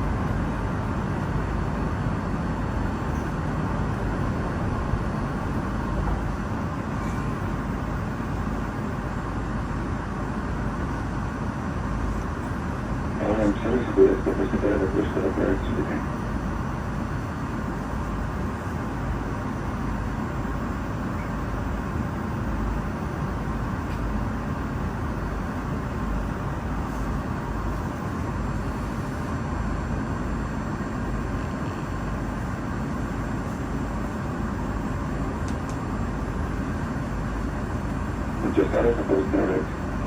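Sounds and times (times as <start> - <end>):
metro train running rumble: 0.0 - 40.0.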